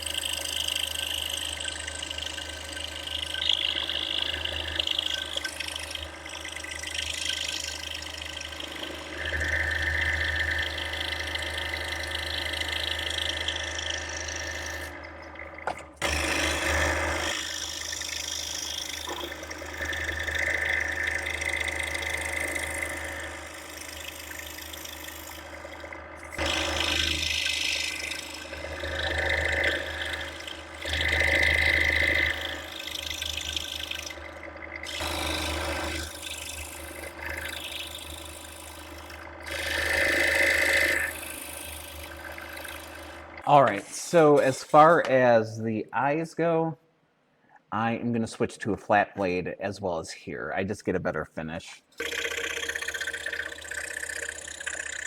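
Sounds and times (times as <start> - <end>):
scroll saw cutting wood: 0.0 - 45.3, 51.9 - 55.0
motor hum: 0.0 - 45.4, 51.9 - 55.0.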